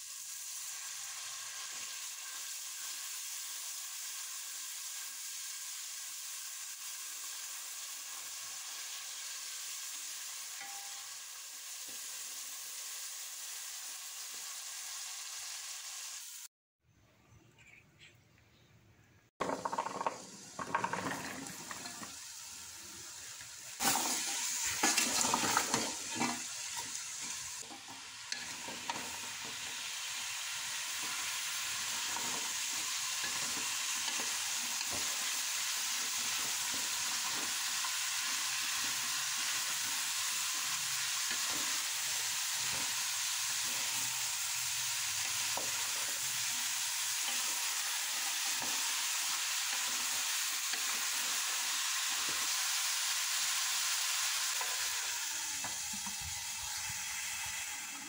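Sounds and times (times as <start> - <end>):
vegetables sizzling in oil: 0.0 - 16.5, 19.4 - 58.0.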